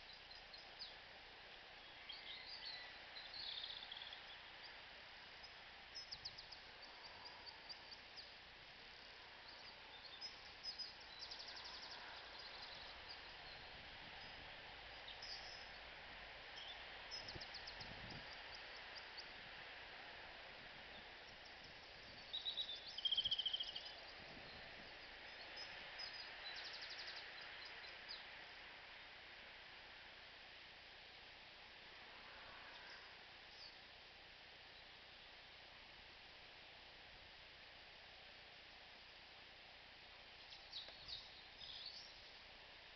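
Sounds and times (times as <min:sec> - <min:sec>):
faint outdoor hiss: 0:00.0 - 0:42.9
small birds chirping: 0:00.0 - 0:42.9.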